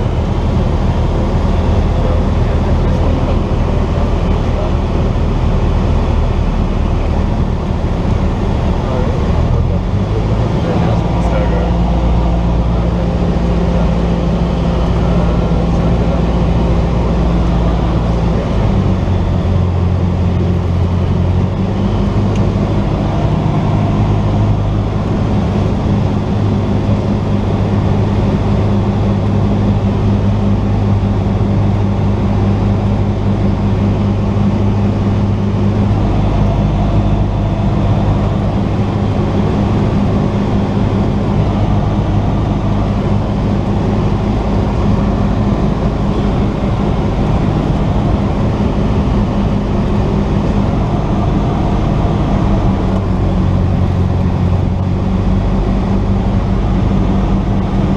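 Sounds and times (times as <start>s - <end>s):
propeller plane engine droning: 0.0s - 57.9s.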